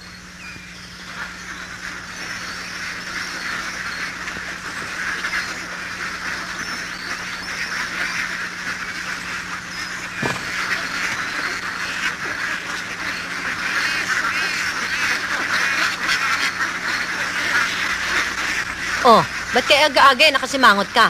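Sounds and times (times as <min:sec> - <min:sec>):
ducks quacking: 0:01.3 - 0:21.0.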